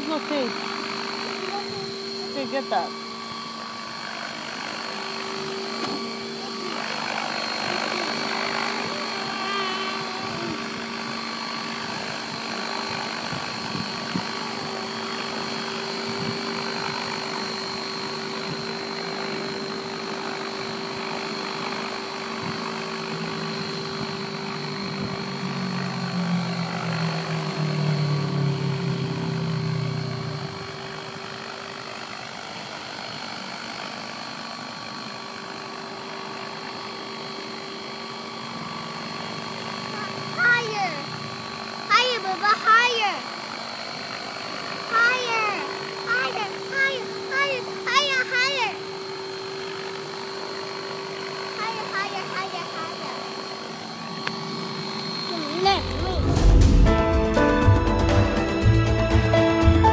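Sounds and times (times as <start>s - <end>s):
model helicopter rotor drone: 0.0s - 59.9s.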